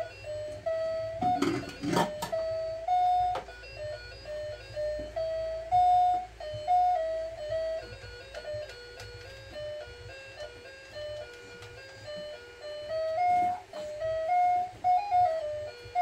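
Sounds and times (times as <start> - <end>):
electronic tone melody: 0.0 - 11.3, 12.0 - 16.0.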